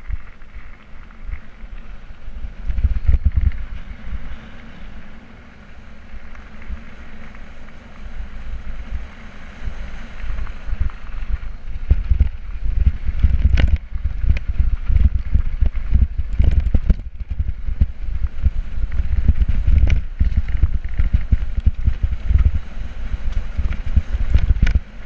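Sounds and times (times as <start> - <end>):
bike rattling over bumps: 0.0 - 25.0
wind buffeting microphone: 0.0 - 25.0.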